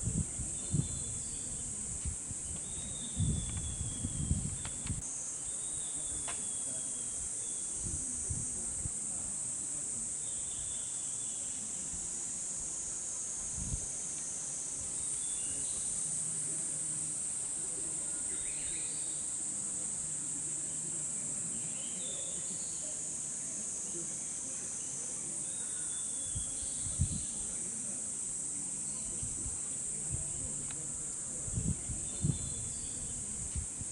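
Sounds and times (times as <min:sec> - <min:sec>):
cicadas droning: 0:00.0 - 0:33.9.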